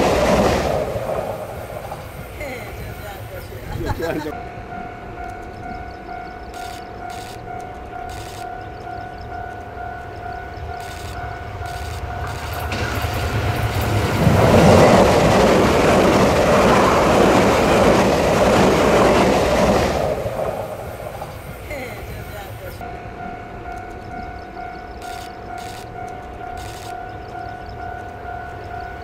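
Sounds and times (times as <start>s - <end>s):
rushing wheel noise: 0.0s - 29.0s
train passing at speed: 0.0s - 29.0s.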